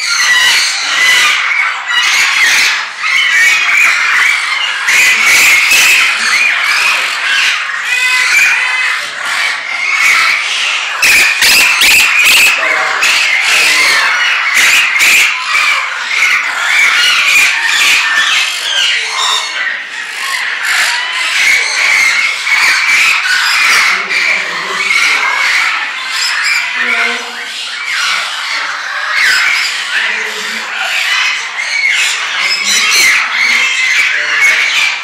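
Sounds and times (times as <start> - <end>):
birds chirping and squawking: 0.0 - 35.0.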